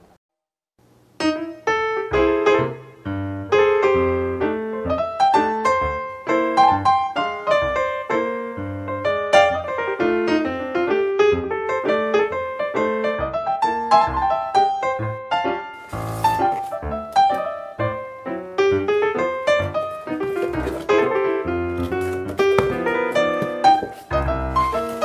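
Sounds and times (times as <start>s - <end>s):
piano music: 1.2s - 25.0s.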